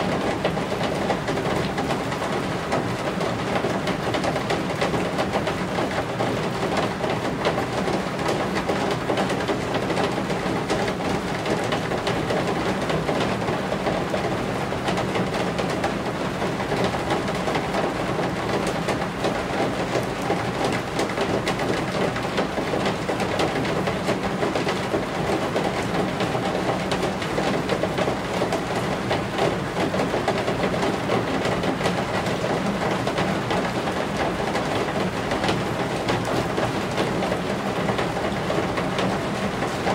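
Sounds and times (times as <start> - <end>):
rain falling on roof eaves: 0.0 - 39.9.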